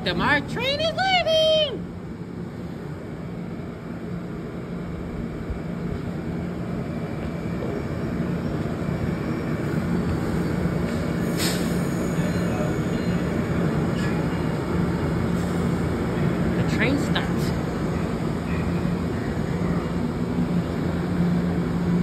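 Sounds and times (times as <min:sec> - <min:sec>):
train rumbling and humming: 0:00.0 - 0:22.0.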